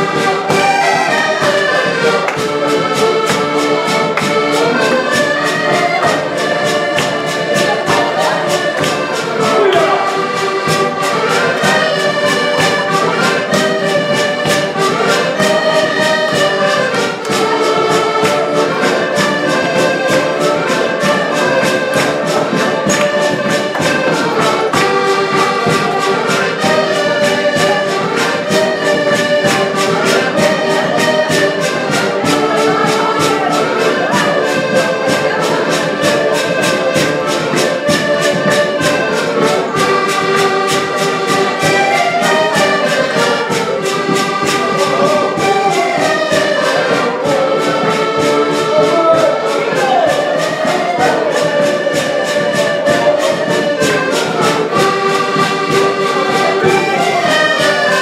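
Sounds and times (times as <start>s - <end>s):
accordions playing dance tune: 0.0s - 58.0s.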